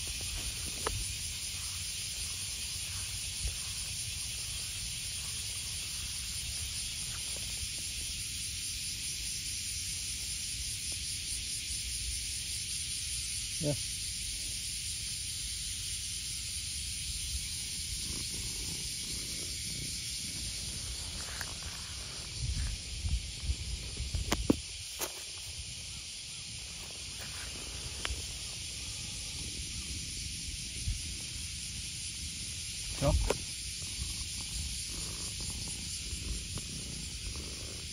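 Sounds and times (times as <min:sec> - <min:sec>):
high-pitched hiss: 0:00.0 - 0:37.9.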